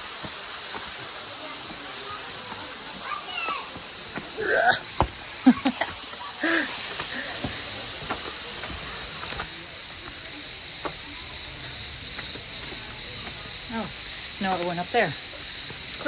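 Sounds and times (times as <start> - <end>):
cicadas calling: 0.0 - 16.0.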